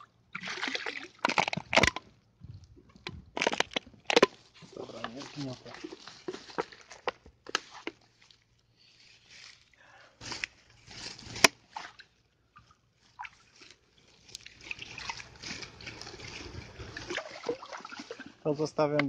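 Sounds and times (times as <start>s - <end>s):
pond water splashing: 0.0s - 19.0s.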